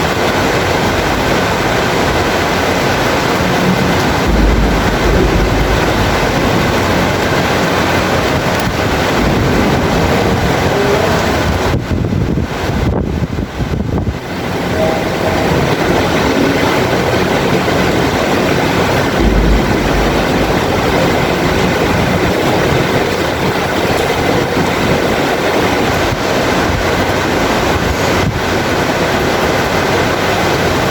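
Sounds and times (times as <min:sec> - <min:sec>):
low rumble of thunder: 0:00.0 - 0:30.8
heavy rain pouring: 0:00.0 - 0:30.9.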